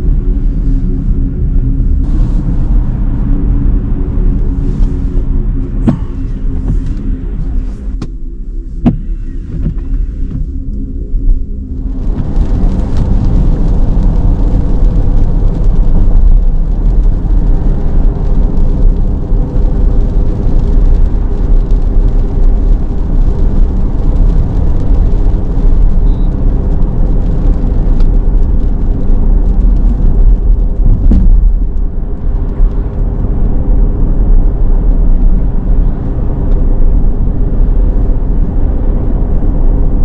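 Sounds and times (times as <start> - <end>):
electric car hum: 0.0 - 40.0
road and tyre rumble: 0.0 - 40.0.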